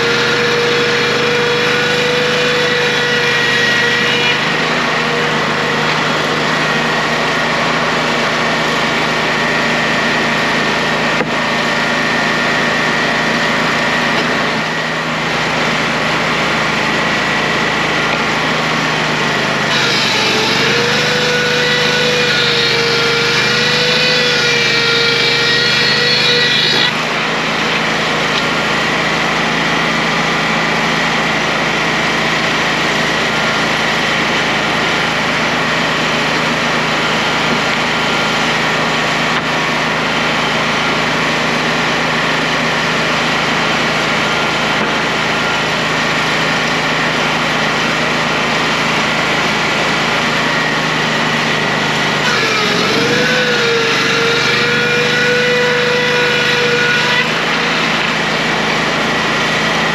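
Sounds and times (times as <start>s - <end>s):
diesel engine running: 0.0s - 56.5s, 57.2s - 59.9s
blower: 0.0s - 59.9s
edger saw whine: 0.0s - 59.9s
generator: 0.0s - 59.9s.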